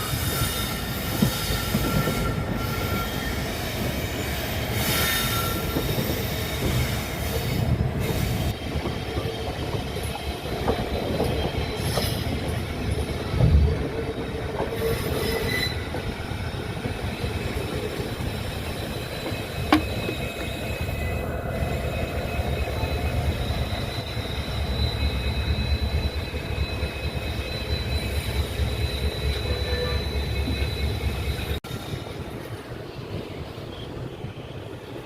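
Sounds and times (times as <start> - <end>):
high wheel squeal: 0.0 - 8.6, 9.9 - 13.5, 14.3 - 32.2
train coaches rumbling: 0.0 - 35.0.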